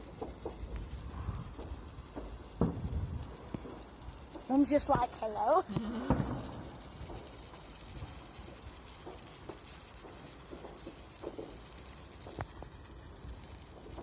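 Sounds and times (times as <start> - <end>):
sparkler fizzing crackle: 0.0 - 14.0.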